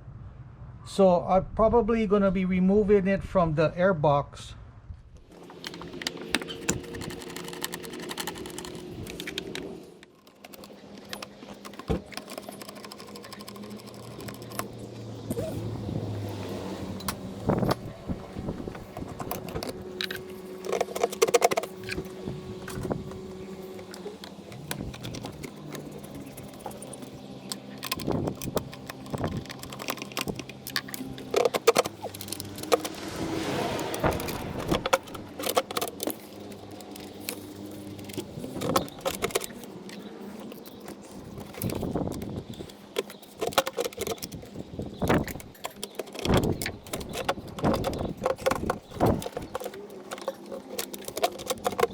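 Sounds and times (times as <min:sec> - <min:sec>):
tools and parts clattering: 0:05.3 - 0:15.6, 0:16.8 - 0:51.9.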